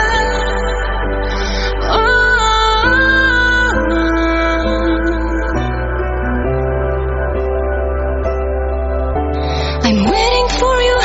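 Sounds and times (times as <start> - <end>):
gliding melodic notes: 0.0 - 11.0
steady low drone: 0.0 - 11.0.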